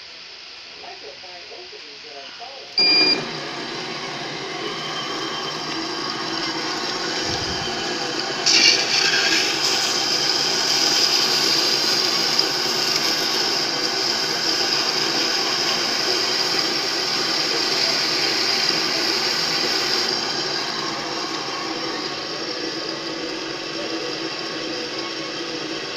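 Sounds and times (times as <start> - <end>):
band saw motor hum: 2.8 - 25.9
high-pitched saw whine: 2.8 - 25.9.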